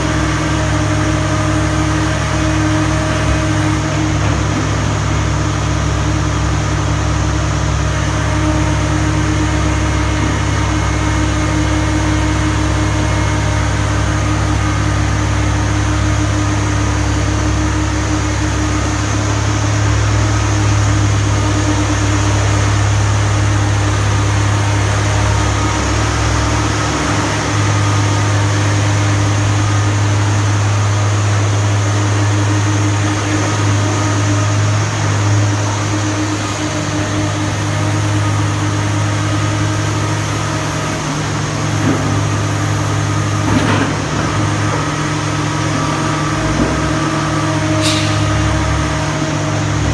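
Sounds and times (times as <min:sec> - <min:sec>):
excavator diesel engine humming: 0:00.0 - 0:49.9.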